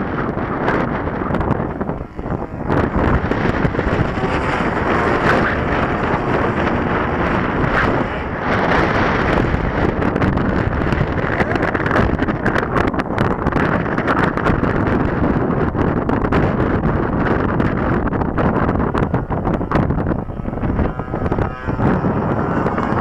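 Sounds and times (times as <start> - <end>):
model airplane engine droning: 0.0 - 23.0
wind buffeting microphone: 0.0 - 23.0.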